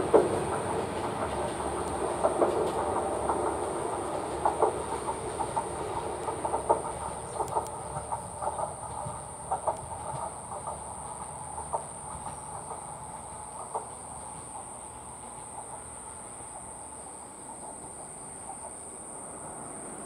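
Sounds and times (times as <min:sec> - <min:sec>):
diesel railcar running: 0:00.0 - 0:20.0
train wheels clacking over rail joints: 0:00.0 - 0:20.0.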